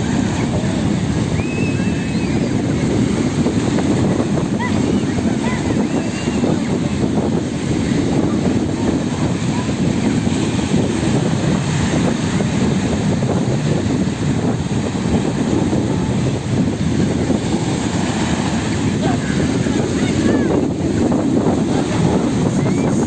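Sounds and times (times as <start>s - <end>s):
sea water: 0.0s - 23.0s
wind buffeting microphone: 0.0s - 23.0s.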